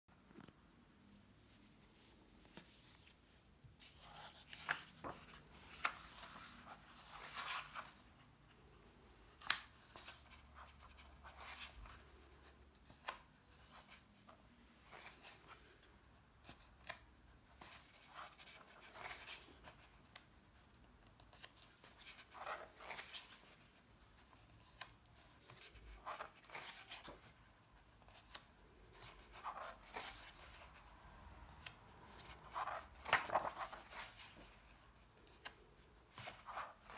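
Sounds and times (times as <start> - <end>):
book pages rustling: 1.4 - 36.9.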